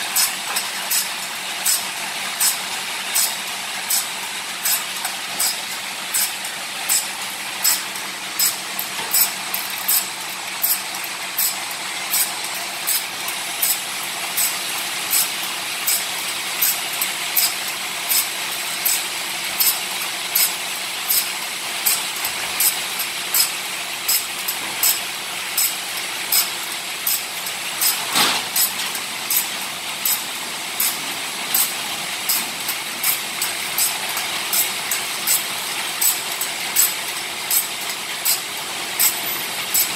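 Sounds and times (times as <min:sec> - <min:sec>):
grinding rasp: 0:00.0 - 0:39.9.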